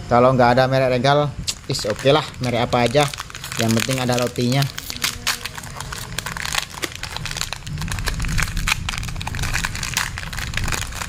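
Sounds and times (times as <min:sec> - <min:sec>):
plastic wrapper crinkling: 0:01.5 - 0:11.0.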